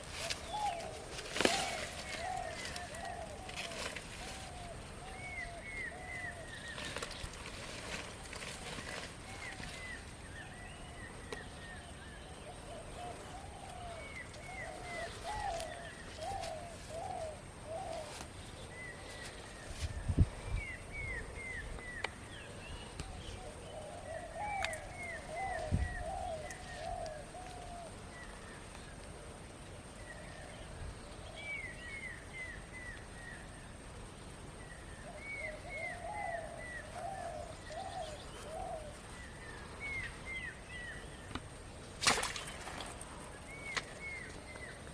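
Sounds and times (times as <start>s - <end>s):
birds calling: 0.0s - 29.0s, 34.6s - 44.9s.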